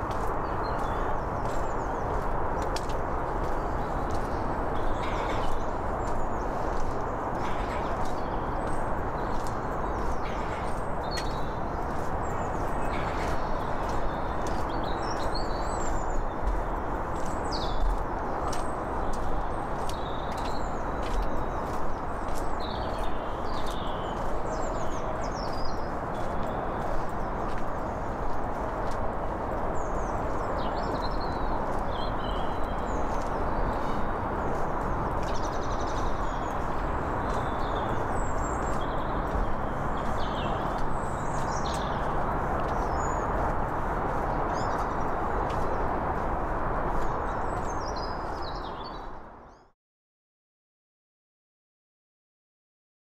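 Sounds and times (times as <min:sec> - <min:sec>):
footsteps on paved path: 0:00.0 - 0:49.7.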